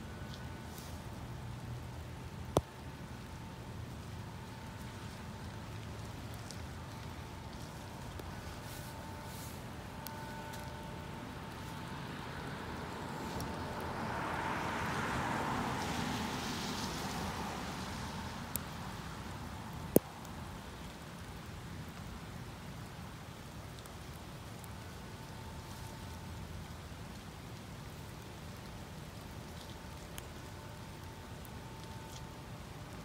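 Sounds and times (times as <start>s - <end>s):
steady rain hissing: 0.0s - 33.0s.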